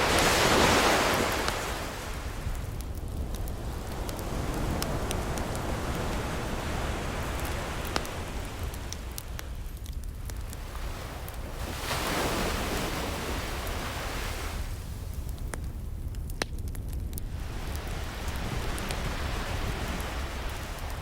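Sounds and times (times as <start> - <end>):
ocean waves washing ashore: 0.0 - 16.0, 17.1 - 21.0
wood fire crackling: 0.0 - 21.0.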